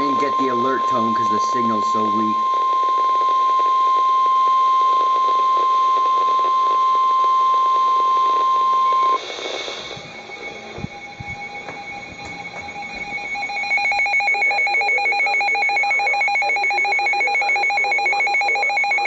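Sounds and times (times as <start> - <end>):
crackling radio static: 0.0 - 19.0
faint radio whistles: 0.0 - 19.0
steady warning alarm tone: 0.0 - 19.0.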